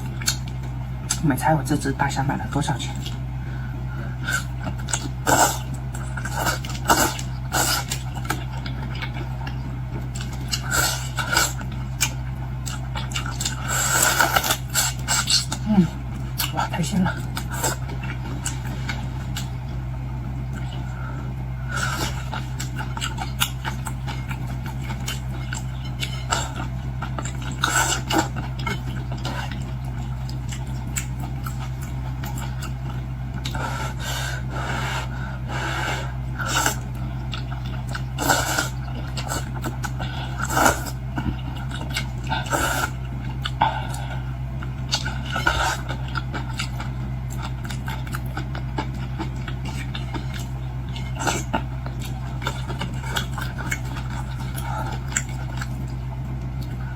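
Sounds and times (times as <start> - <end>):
chewing and mouth noises: 0.0 - 1.3, 4.2 - 34.9, 35.5 - 56.9
steady low hum: 0.0 - 56.9.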